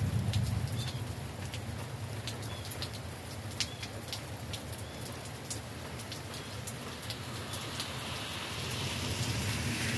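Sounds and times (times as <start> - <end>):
steady rain: 0.0 - 9.9.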